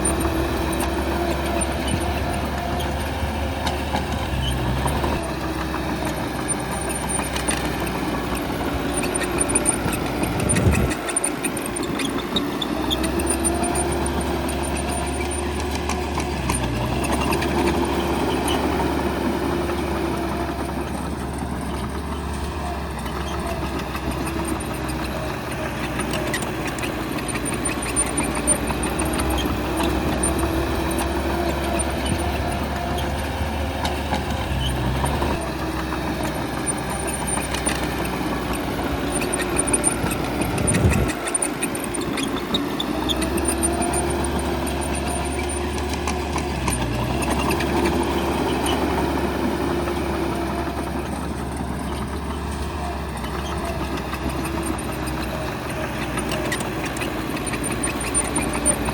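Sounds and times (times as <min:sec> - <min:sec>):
bulldozer diesel engine: 0:00.0 - 0:58.9.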